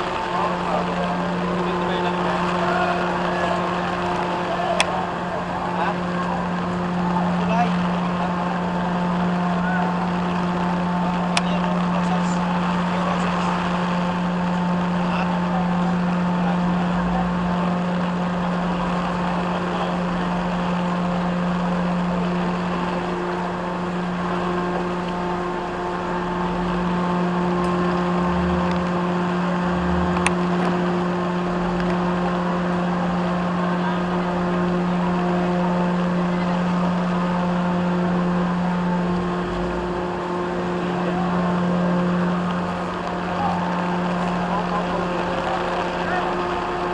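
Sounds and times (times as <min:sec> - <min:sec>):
rain falling on water: 0:00.0 - 0:46.9
truck engine droning: 0:00.0 - 0:46.9.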